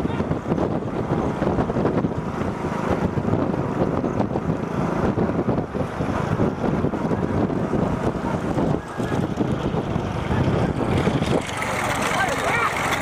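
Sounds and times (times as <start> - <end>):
vehicle noise: 0.0 - 13.0
wind buffeting microphone: 0.0 - 13.0.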